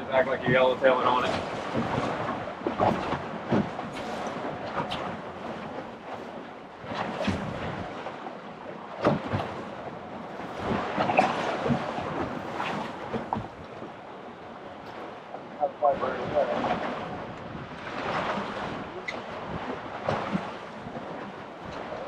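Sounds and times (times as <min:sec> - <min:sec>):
strong wind buffeting microphone: 0:00.0 - 0:22.0
waves slapping against boat: 0:00.0 - 0:22.0.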